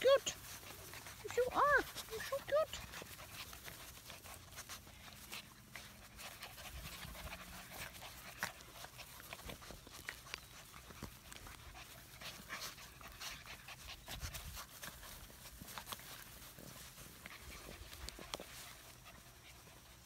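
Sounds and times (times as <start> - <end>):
puppies panting: 0.0 - 20.0
small rustles and clicks: 0.0 - 20.0.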